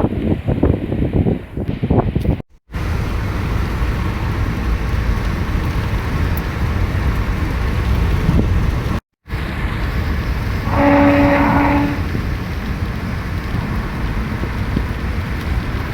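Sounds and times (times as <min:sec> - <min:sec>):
wind noise: 0:00.0 - 0:15.9
vehicle rumble: 0:02.7 - 0:15.9.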